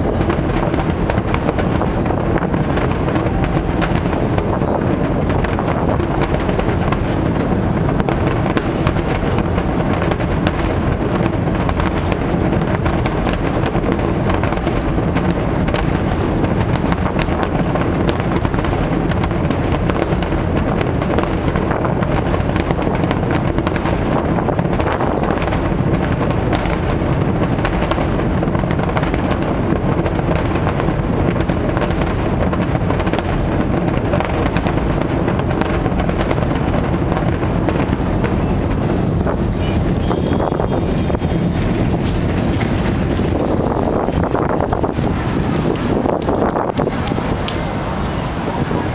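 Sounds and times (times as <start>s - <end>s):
firework shells bursting: 0.0s - 47.8s.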